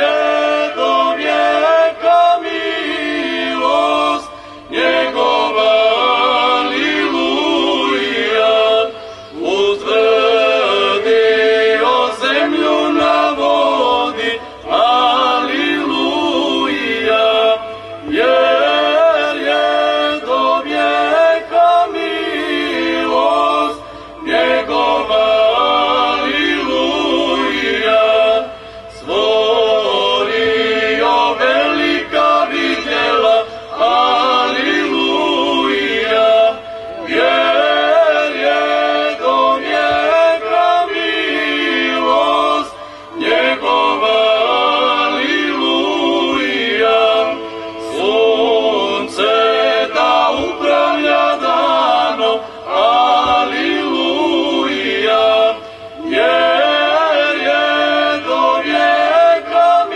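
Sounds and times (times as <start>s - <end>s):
choir chanting a cappella: 0.0s - 59.9s.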